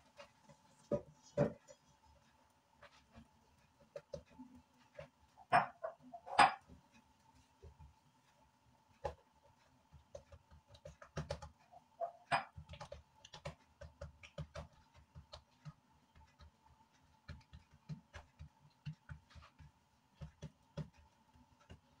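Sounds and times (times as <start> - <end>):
hands patting dough on stone: 0.0 - 22.0.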